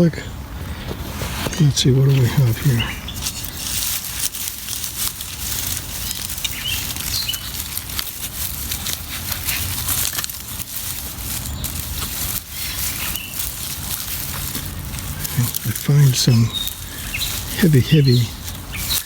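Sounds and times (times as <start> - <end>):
dry mulch and soil crunching: 0.0 - 19.0.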